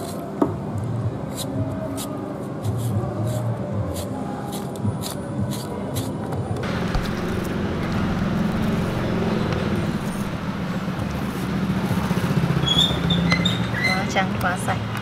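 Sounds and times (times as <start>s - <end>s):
traffic rumble and hiss: 0.0s - 15.0s.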